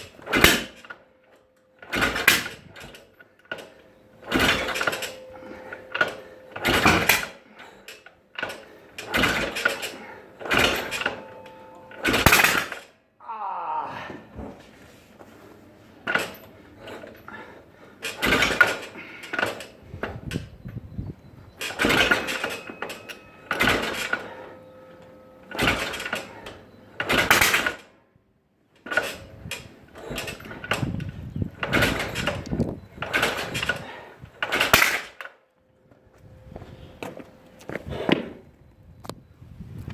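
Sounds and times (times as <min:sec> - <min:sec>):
motorcycle engine cranking: 0:00.0 - 0:13.0, 0:15.3 - 0:28.0, 0:28.8 - 0:35.4.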